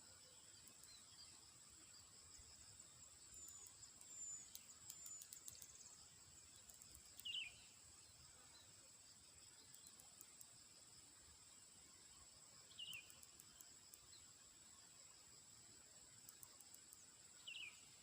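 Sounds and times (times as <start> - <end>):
high insect drone: 0.0 - 18.0
insect ticks: 0.2 - 8.2, 9.2 - 11.1, 12.3 - 15.1, 16.0 - 18.0.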